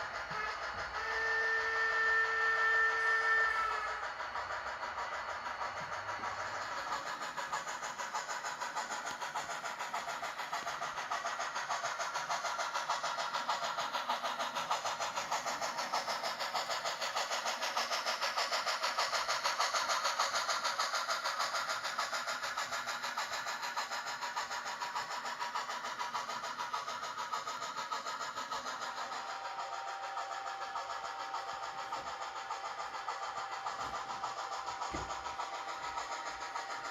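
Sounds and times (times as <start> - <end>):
model steam locomotive chuffs: 0.0 - 36.9.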